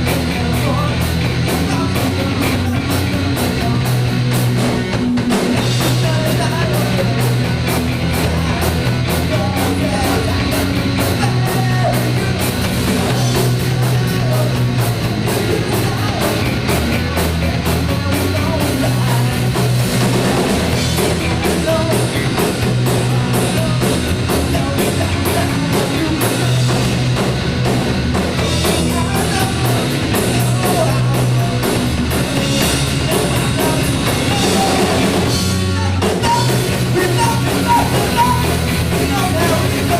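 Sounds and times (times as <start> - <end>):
person singing: 0.0 - 27.3, 28.3 - 39.9
bass guitar: 0.0 - 39.9
drum kit: 0.0 - 39.9
guitar: 0.0 - 39.9.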